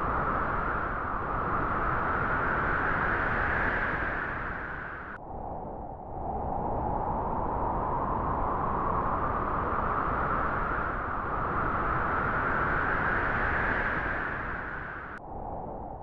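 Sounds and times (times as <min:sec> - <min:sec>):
wind blowing through grass: 0:00.0 - 0:05.6, 0:06.2 - 0:16.0.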